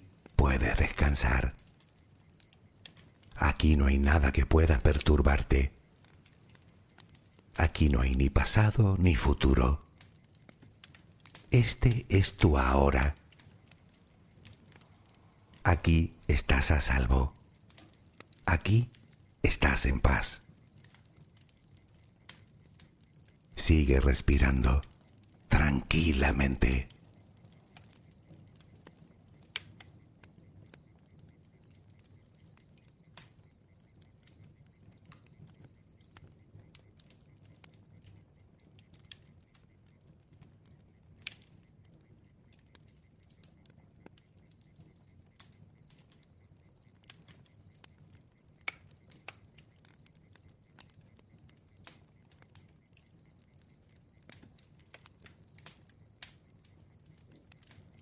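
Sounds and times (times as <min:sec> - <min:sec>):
fire crackling and popping: 0:00.0 - 0:58.0
low rumble of burning wood: 0:00.0 - 0:58.0.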